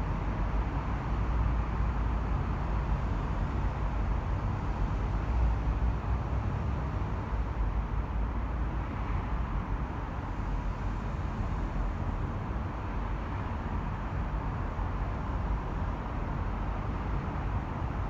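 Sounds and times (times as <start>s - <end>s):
dense car traffic: 0.0s - 18.0s.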